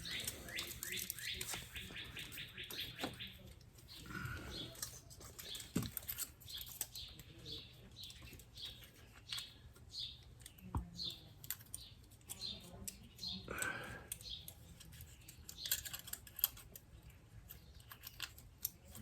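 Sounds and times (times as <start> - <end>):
bird chirping: 0.0 - 18.8.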